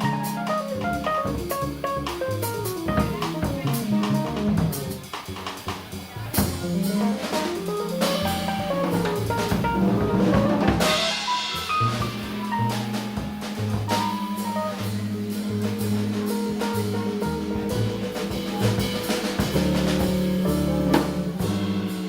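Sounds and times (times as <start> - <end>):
piano runs: 0.0 - 5.0, 6.6 - 22.0
busy drumming: 0.0 - 22.0.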